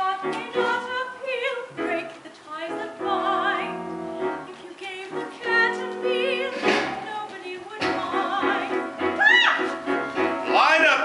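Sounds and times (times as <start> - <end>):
piano accompaniment: 0.0 - 11.0.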